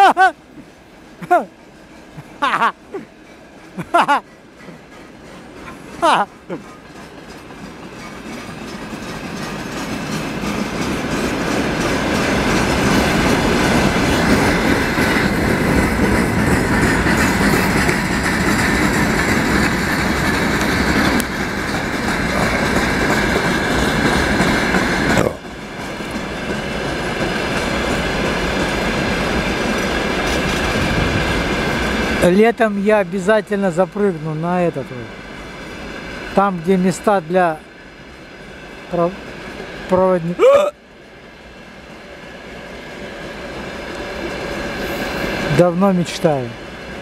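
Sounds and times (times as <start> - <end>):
train wheels on rails: 0.0 - 47.0.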